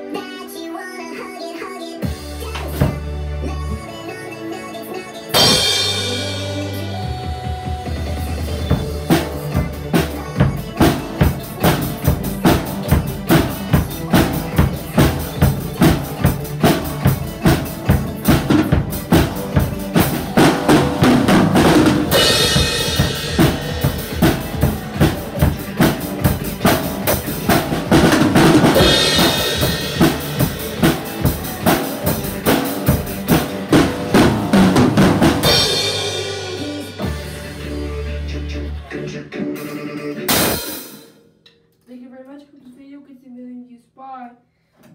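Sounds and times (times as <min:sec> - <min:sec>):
drum kit playing rock beat: 0:02.0 - 0:41.4.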